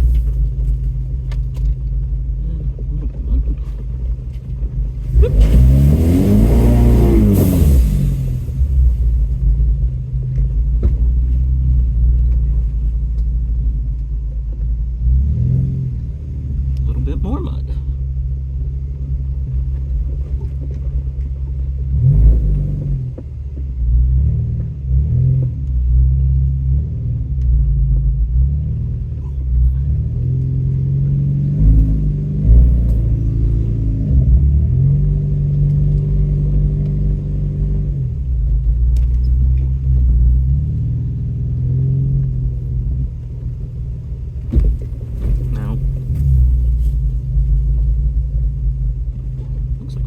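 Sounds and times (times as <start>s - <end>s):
off-road vehicle engine revving: 0.0s - 14.0s, 14.8s - 50.0s.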